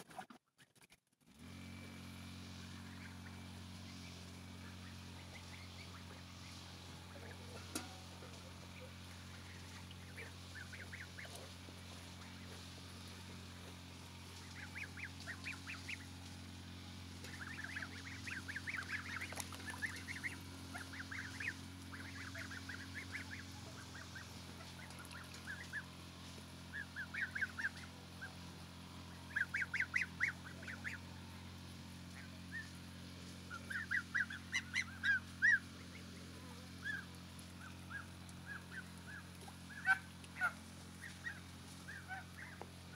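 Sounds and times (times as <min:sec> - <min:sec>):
geese honking: 0:02.4 - 0:42.9.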